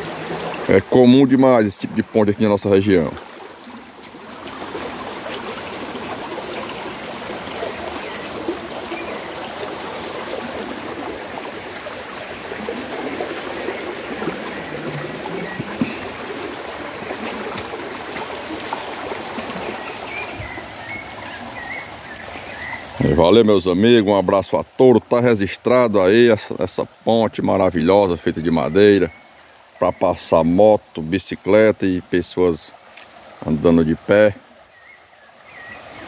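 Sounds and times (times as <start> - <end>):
floodwater rushing in creek: 0.0 - 36.0.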